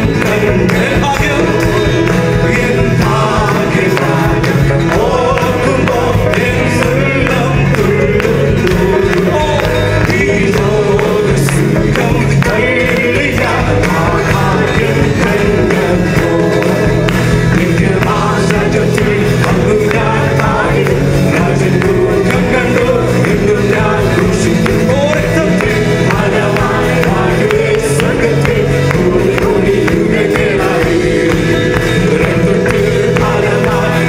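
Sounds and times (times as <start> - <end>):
band with acoustic guitar: 0.0 - 34.0
men singing worship song: 0.0 - 34.0.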